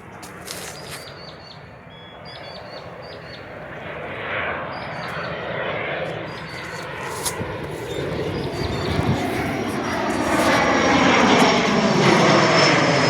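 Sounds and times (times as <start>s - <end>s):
aircraft engine: 0.0s - 13.0s
small birds chirping: 0.2s - 12.2s.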